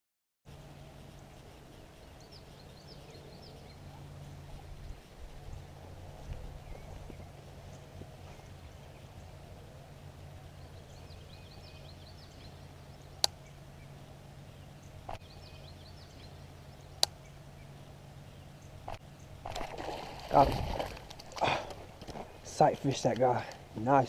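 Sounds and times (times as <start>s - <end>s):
distant birds chirping: 0.5s - 24.0s
low hum: 0.5s - 24.0s.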